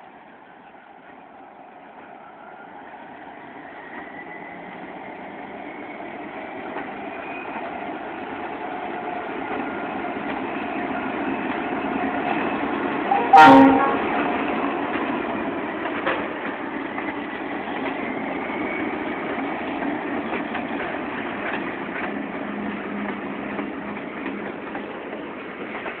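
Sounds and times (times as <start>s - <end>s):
diesel freight train passing: 0.0s - 26.0s.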